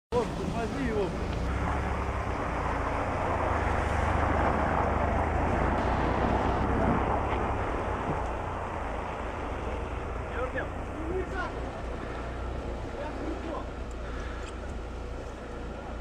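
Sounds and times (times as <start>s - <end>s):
vehicle engine humming: 0.1s - 16.0s
rushing noise: 0.2s - 16.0s.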